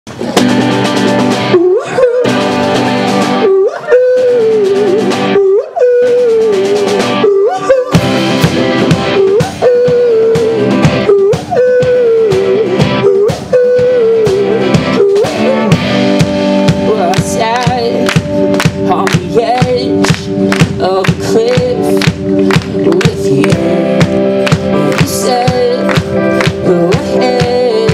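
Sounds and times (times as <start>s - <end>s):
rock band playing live: 0.1s - 27.9s.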